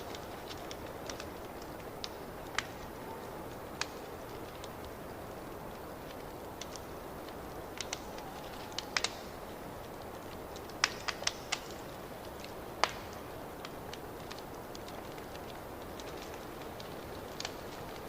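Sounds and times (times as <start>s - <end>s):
fire popping and snapping: 0.0s - 18.0s
wood fire crackling: 0.0s - 18.0s.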